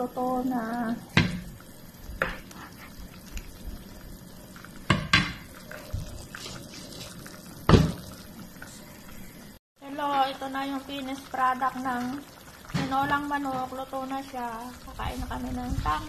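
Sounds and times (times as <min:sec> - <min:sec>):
soup simmering with low hiss: 0:00.0 - 0:16.0.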